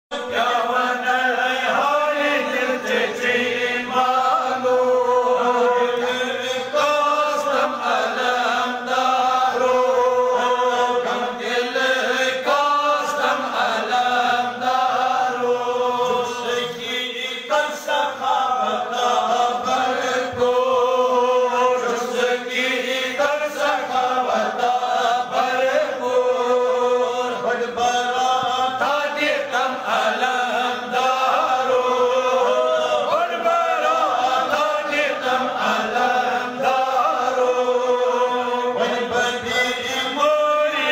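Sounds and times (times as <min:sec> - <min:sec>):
person chanting: 0:00.1 - 0:40.9.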